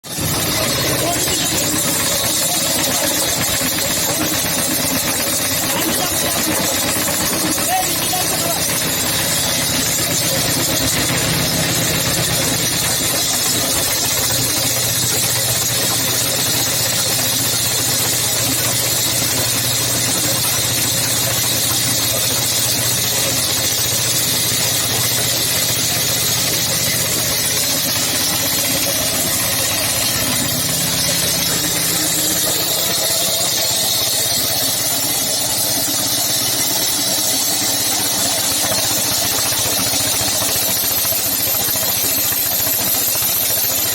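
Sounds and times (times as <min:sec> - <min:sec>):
concrete cutter engine running: 0:00.0 - 0:43.9.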